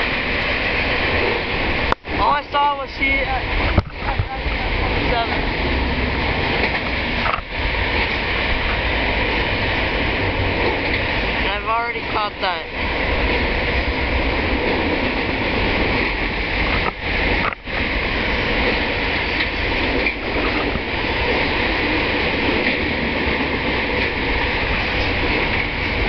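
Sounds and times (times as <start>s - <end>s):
steel wheels on rails: 0.0s - 26.0s.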